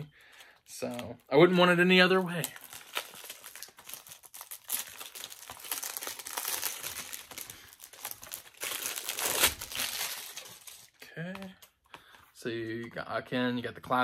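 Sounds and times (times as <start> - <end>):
plastic wrap crinkling: 0.2 - 11.6.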